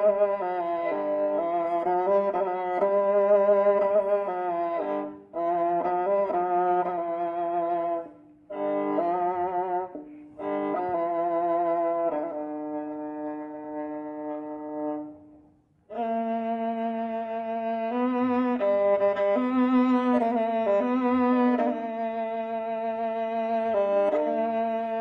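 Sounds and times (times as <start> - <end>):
bowed string melody: 0.0 - 25.0.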